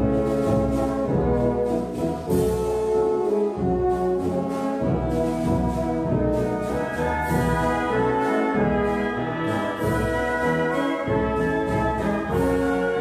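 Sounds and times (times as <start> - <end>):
orchestra playing brass chords: 0.0 - 13.0.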